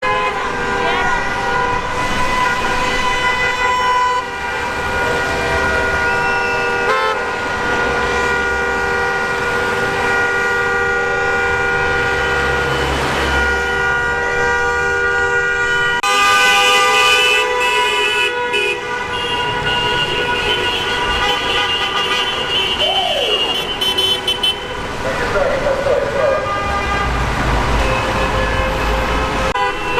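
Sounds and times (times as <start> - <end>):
shrill car horn: 0.0 - 25.0, 25.9 - 29.9
car horns blaring: 0.0 - 29.9.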